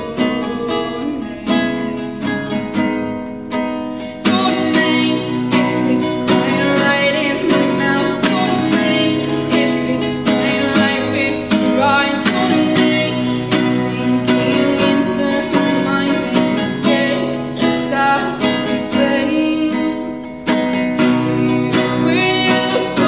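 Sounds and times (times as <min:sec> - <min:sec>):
girl singing: 0:00.0 - 0:02.7, 0:04.1 - 0:23.0
strummed nylon-string guitar: 0:00.0 - 0:23.0.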